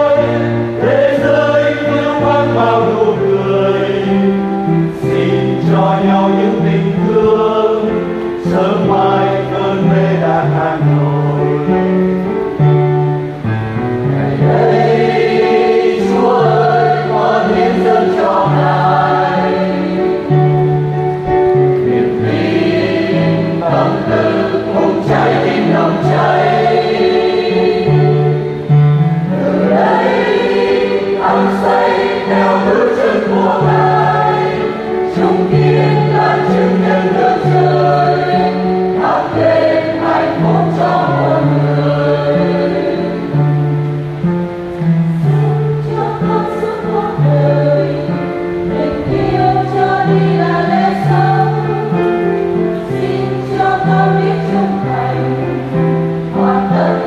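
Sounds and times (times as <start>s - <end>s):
church choir singing a hymn: 0.0s - 57.0s.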